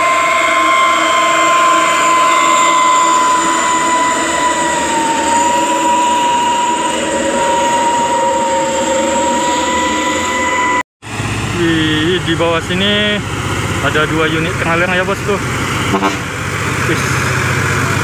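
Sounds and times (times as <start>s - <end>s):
dump trucks driving past: 0.0s - 18.0s
high drivetrain whine: 0.0s - 18.0s.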